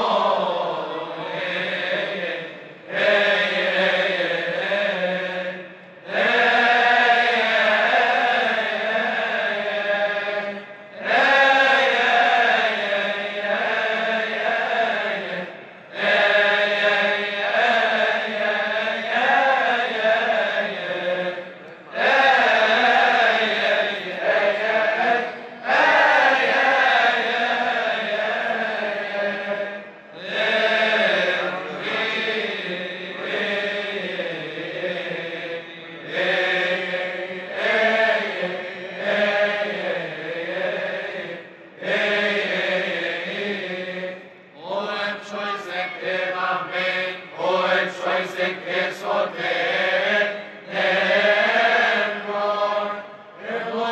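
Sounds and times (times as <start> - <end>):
male choir chanting a hymn: 0.0 - 53.9.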